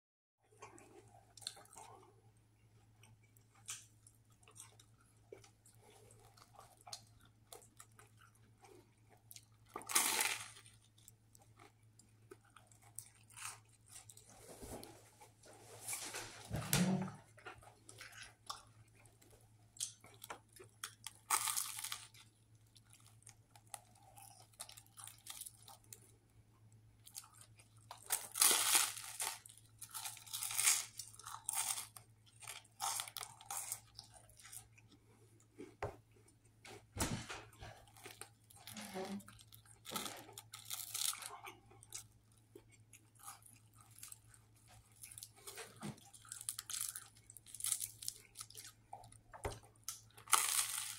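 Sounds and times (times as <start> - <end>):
person chewing crusty sandwich: 0.5 - 15.8, 17.2 - 50.9.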